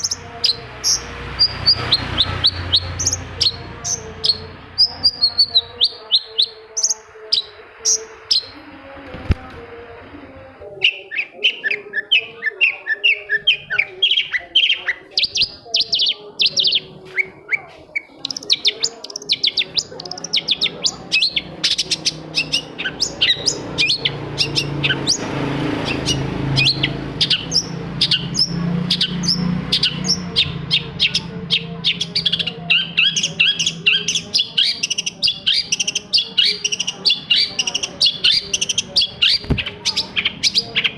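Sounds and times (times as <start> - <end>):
bird chirping sharp notes: 0.0 - 8.6, 10.7 - 40.9.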